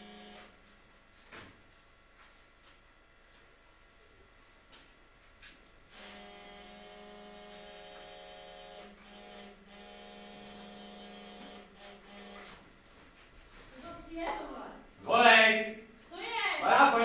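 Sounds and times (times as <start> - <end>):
electric buzzing hum: 0.0 - 3.9, 4.9 - 17.0.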